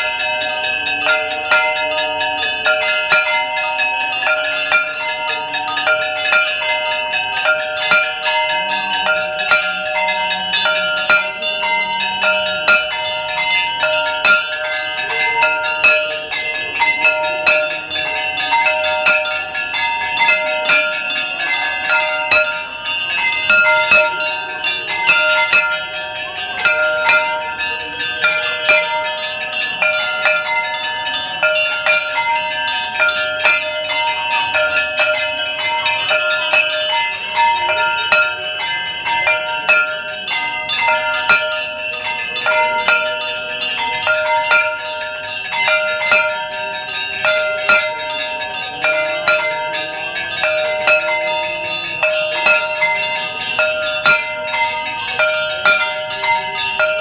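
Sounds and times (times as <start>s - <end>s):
brass bells clanging: 0.0s - 57.0s.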